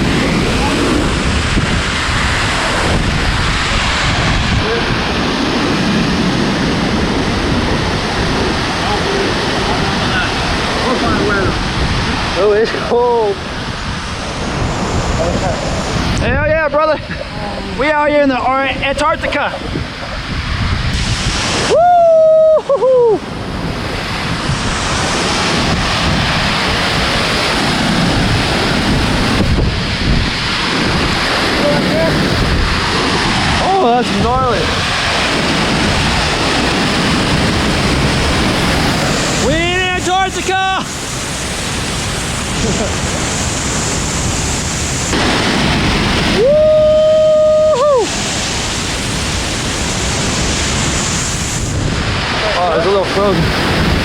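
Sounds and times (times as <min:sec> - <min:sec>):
waterfall rushing: 0:00.0 - 0:54.0
wind buffeting microphone: 0:00.0 - 0:54.0.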